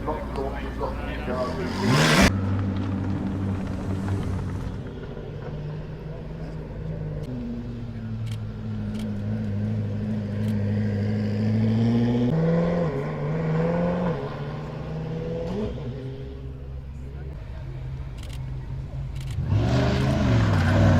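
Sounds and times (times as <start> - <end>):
car engine at low revs: 0.0 - 20.9.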